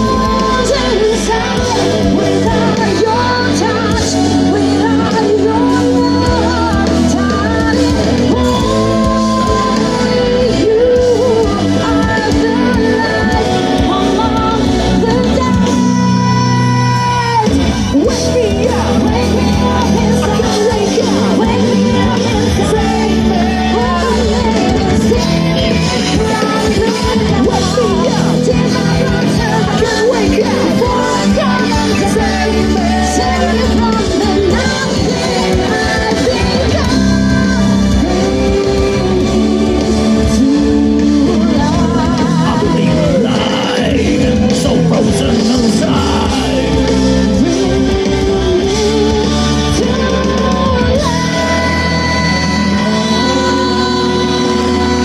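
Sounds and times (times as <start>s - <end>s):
pop-rock song with lead vocal: 0.0s - 55.0s.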